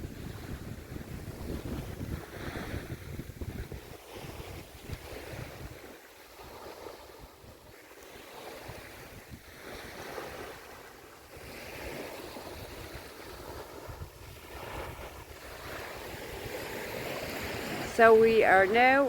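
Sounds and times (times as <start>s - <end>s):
sea waves washing on beach: 0.0s - 19.0s
wind rumbling on microphone: 0.0s - 19.0s.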